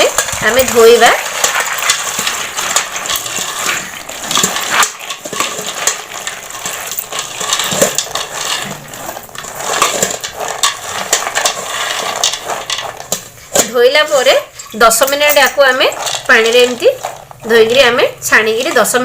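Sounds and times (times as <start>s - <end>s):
peanuts swished in water: 0.0s - 19.0s.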